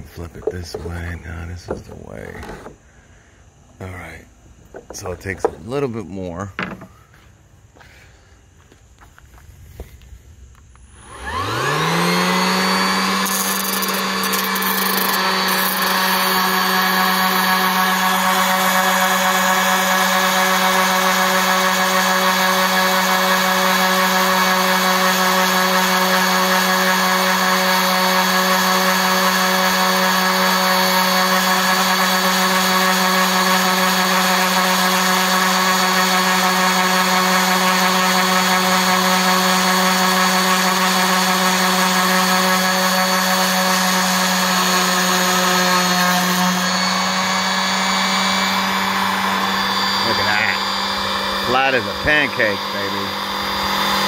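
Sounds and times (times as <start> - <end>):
orbital sander motor running: 0.0 - 54.0
wood block rasping on sander: 0.1 - 2.8, 4.7 - 5.8, 11.1 - 54.0.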